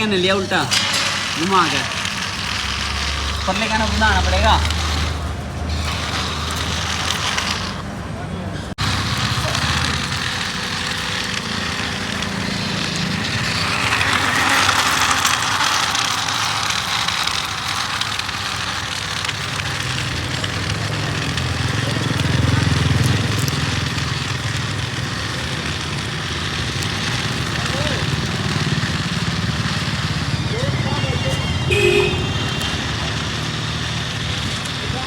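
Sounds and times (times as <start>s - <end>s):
toy tractor motor running: 0.0s - 35.0s.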